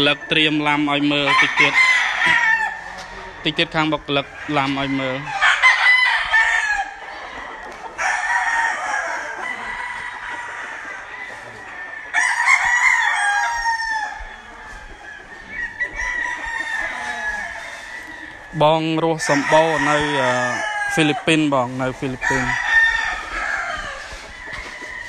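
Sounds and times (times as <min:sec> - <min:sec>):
roosters crowing: 0:00.0 - 0:25.0.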